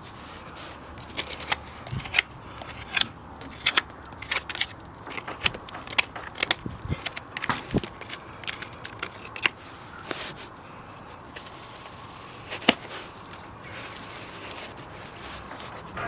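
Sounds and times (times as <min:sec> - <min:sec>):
hand tools scraping hoof: 0:00.0 - 0:16.0.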